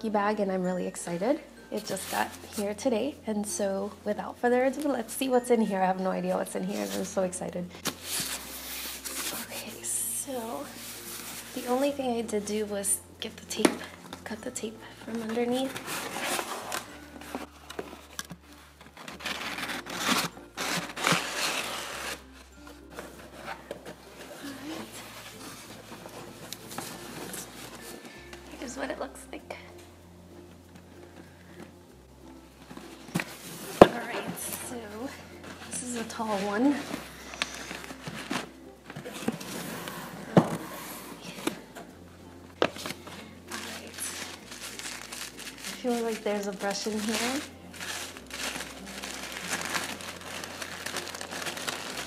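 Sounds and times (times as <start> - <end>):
tissue paper and cardboard rustling: 0.9 - 3.2, 4.7 - 29.2, 32.6 - 41.7, 42.6 - 52.0.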